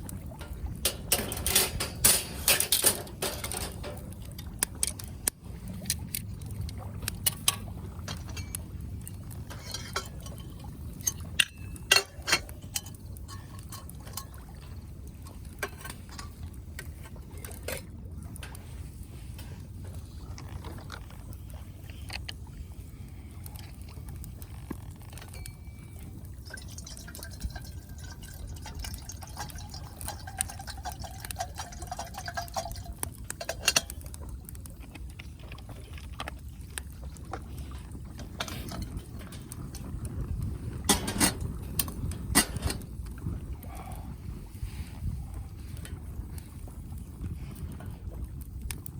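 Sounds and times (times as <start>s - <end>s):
fire crackling and popping: 0.0s - 48.9s
wood fire rumbling: 0.0s - 48.9s.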